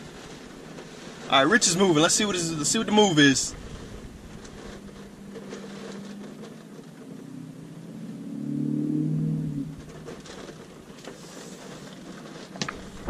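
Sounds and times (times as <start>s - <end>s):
car engine drone from inside cabin: 0.0s - 13.0s.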